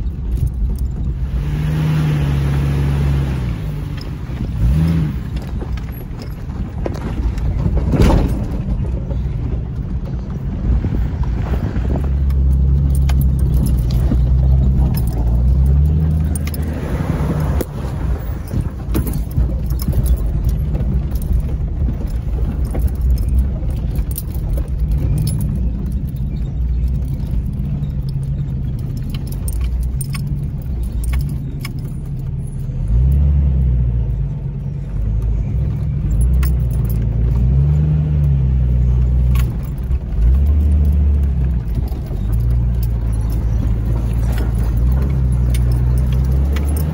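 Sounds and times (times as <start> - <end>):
loose things rattling in cab: 0.0 - 1.2, 3.8 - 46.9
engine rumble with revs rising: 0.0 - 46.9.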